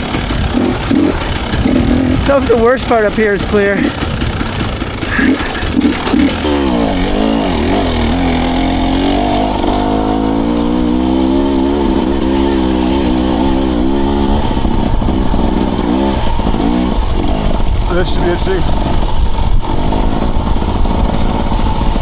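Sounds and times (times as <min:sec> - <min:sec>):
dirt bike engine: 0:00.0 - 0:22.0.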